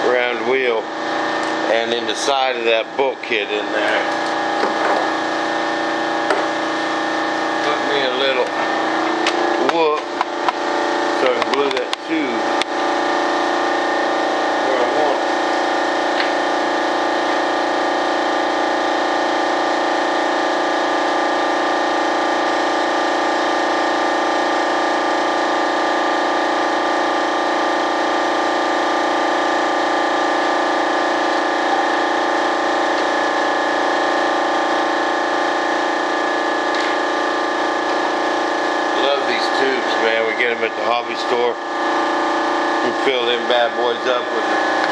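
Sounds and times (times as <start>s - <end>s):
air compressor motor hum: 0.0s - 44.9s.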